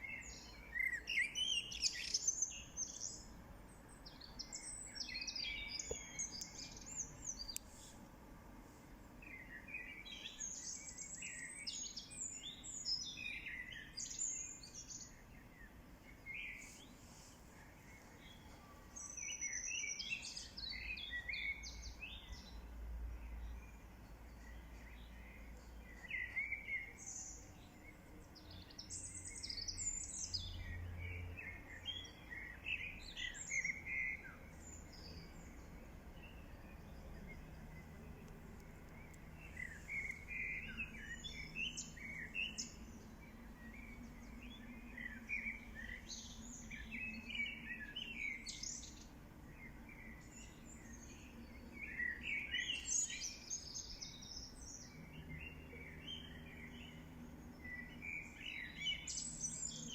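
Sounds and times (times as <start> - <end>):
faint low hum: 0.0 - 59.9
small birds chirping: 0.0 - 59.9.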